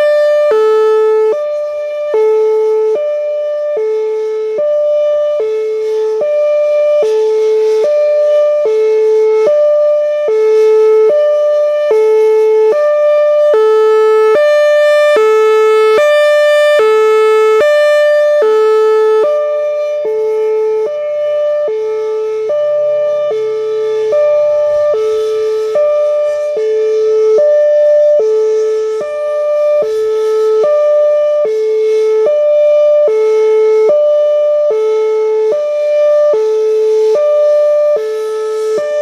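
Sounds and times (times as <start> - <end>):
two-tone warning siren: 0.0 - 39.0.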